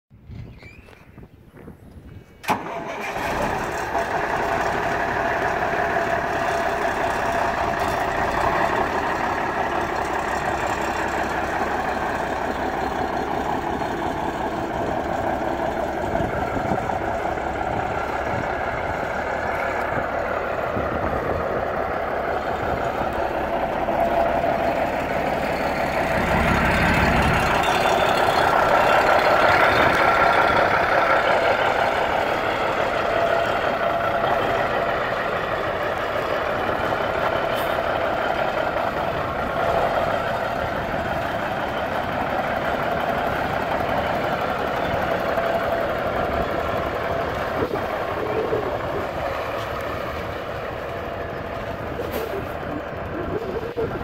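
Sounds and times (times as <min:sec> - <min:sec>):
diesel truck engine starting and idling: 0:01.9 - 0:54.0.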